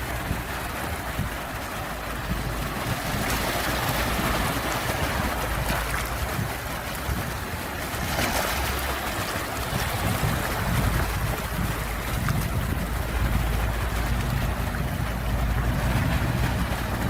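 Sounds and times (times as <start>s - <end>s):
low rumble: 0.0s - 17.0s
sea waves breaking: 0.0s - 17.0s.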